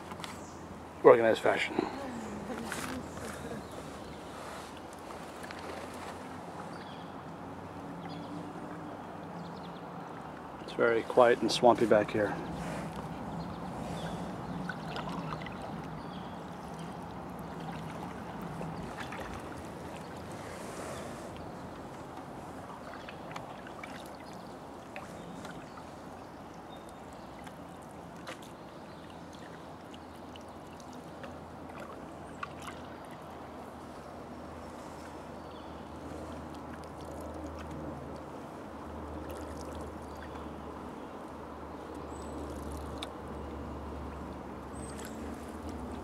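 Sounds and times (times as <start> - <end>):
paddles dipping through water: 0.0 - 46.0.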